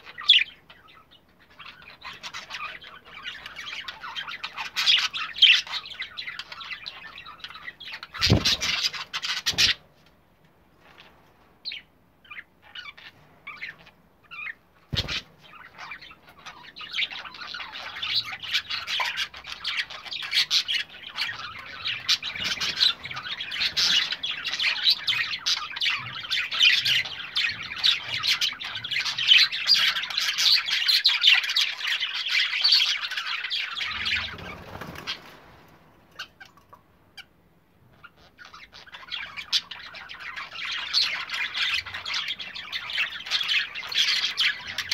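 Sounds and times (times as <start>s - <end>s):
budgerigars chattering and warbling: 0.0s - 9.8s, 11.7s - 35.3s, 36.1s - 44.9s.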